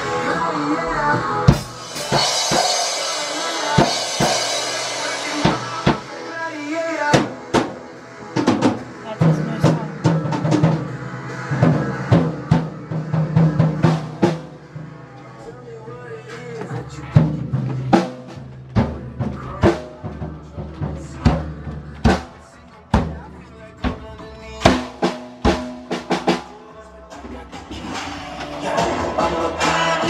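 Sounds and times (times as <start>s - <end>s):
drum kit playing: 0.0s - 30.0s
recorded music: 0.0s - 30.0s.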